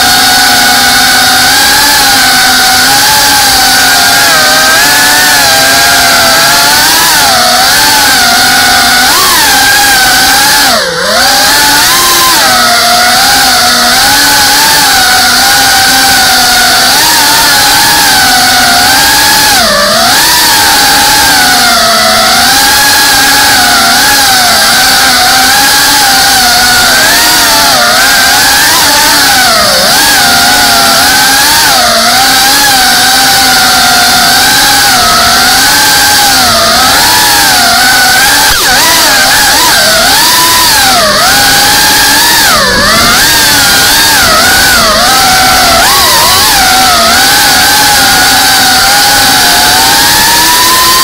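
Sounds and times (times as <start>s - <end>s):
drone motors and propellers whining: 0.0s - 51.0s.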